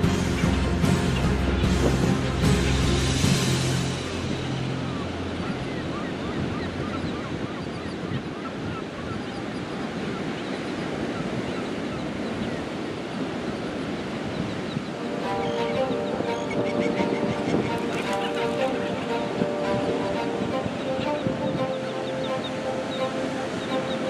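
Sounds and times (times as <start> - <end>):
ocean surf breaking: 0.0 - 24.0
seabirds calling: 0.0 - 24.0
wind noise: 0.0 - 24.0.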